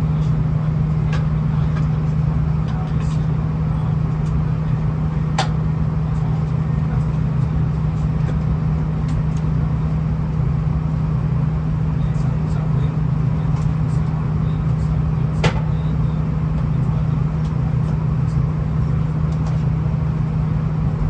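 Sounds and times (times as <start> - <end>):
diesel train drone: 0.0 - 21.0.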